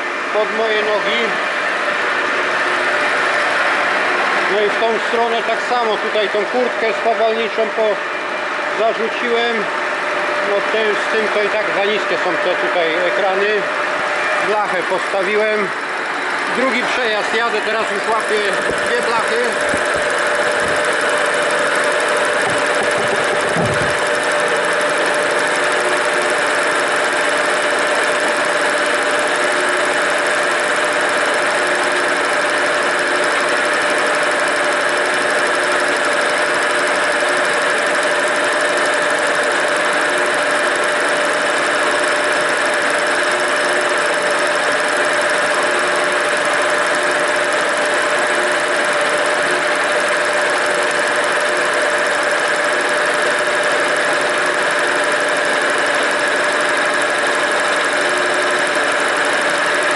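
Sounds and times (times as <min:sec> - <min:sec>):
cutter whine: 0:00.0 - 0:59.9
milling machine cutting steel: 0:10.4 - 0:59.9.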